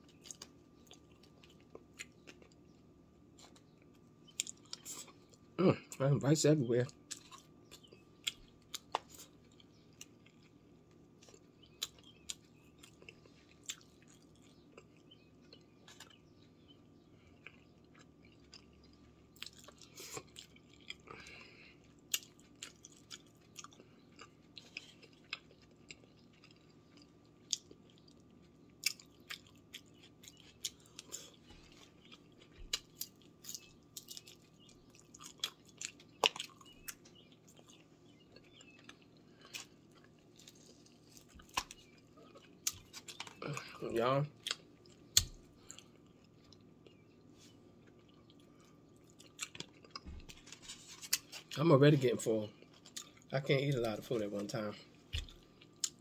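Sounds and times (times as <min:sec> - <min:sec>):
person chewing food: 0:00.0 - 0:06.0, 0:06.9 - 0:51.6, 0:52.5 - 0:56.0
faint steady hum: 0:00.0 - 0:56.0.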